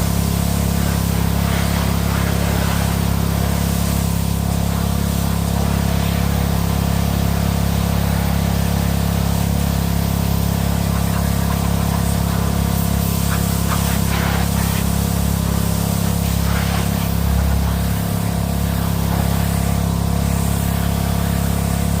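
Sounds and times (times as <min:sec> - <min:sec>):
high-pressure water spray hissing: 0:00.0 - 0:22.0
small engine drone: 0:00.0 - 0:22.0.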